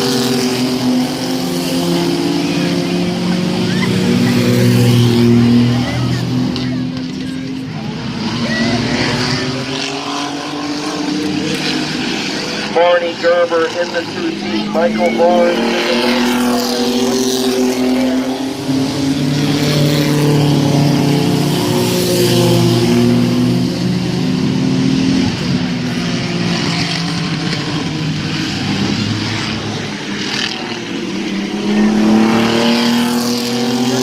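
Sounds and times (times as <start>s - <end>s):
race truck engines running hard: 0.0s - 34.0s.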